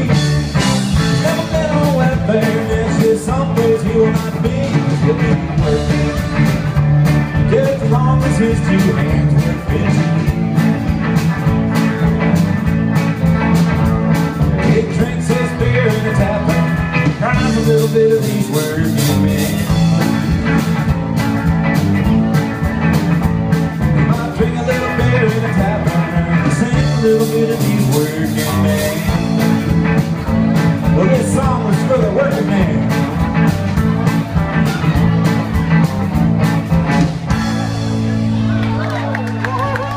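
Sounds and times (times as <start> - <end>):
drum kit steady beat: 0.0 - 38.8
electric guitars: 0.0 - 39.9.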